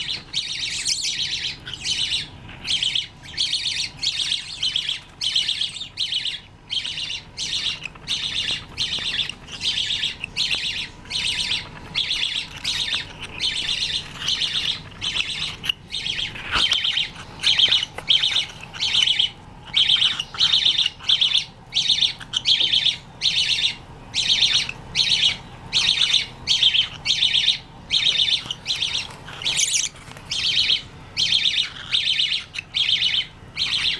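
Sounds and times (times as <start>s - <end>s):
parrots squawking: 0.0s - 33.9s.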